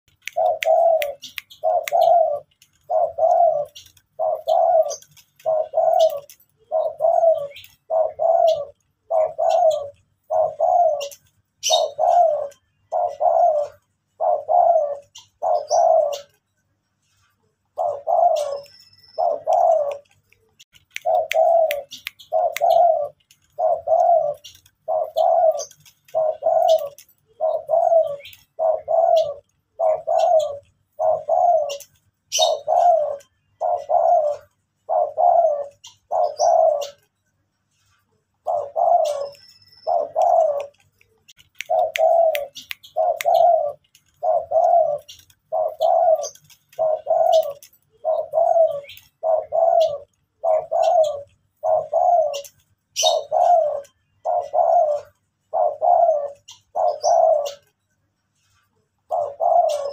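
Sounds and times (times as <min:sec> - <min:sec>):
dove cooing: 0:00.2 - 0:16.7, 0:17.4 - 0:37.2, 0:38.1 - 0:57.8, 0:59.0 - 0:59.9.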